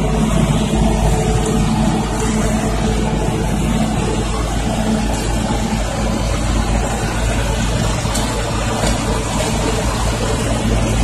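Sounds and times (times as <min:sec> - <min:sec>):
road roller diesel engine: 0:00.0 - 0:11.0
truck engine: 0:00.0 - 0:11.0.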